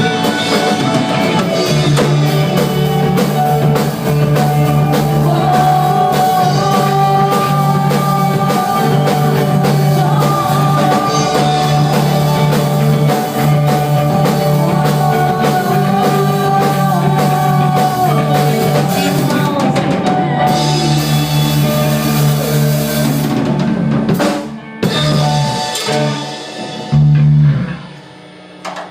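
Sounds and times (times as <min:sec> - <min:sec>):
held melodic lines: 0:00.0 - 0:24.0
bass guitar: 0:00.0 - 0:28.9
drum kit beat: 0:00.0 - 0:28.9
electric guitar: 0:00.0 - 0:28.9.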